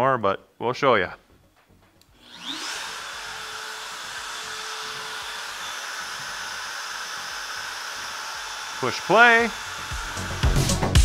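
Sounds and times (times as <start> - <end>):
router motor whining: 2.0 - 11.0.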